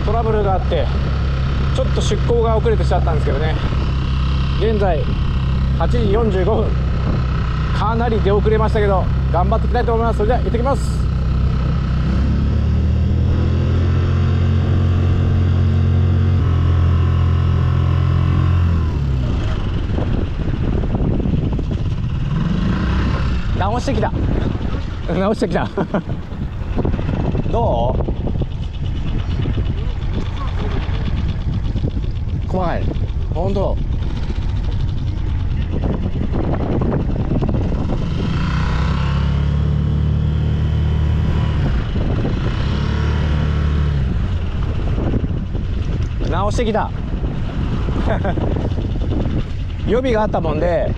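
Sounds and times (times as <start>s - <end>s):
outboard motor running: 0.0s - 50.9s
wind: 0.0s - 50.9s.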